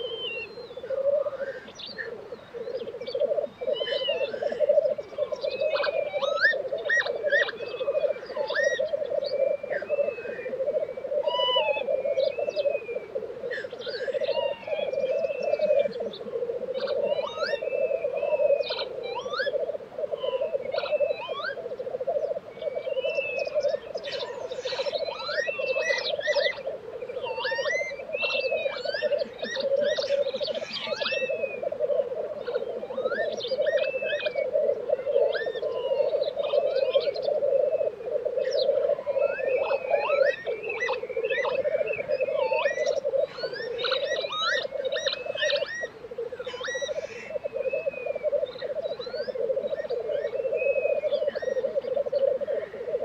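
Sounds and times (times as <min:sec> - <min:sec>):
grouse bubbling song: 0:00.0 - 0:53.0.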